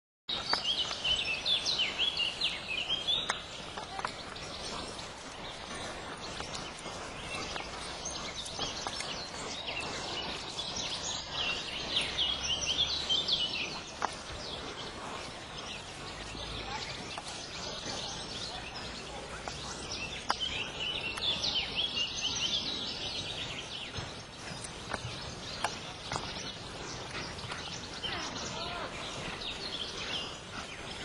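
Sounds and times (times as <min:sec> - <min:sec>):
birds chirping: 0:00.3 - 0:31.0.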